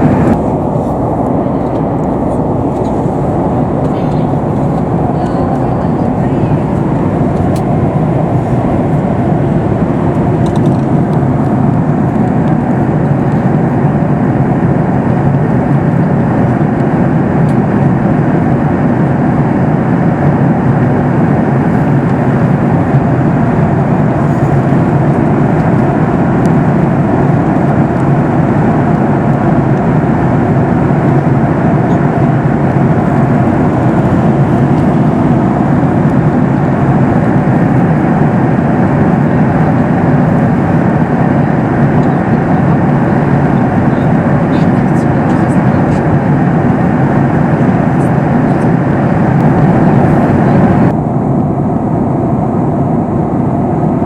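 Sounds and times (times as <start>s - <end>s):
airplane cabin engine and airflow noise: 0.0s - 54.0s.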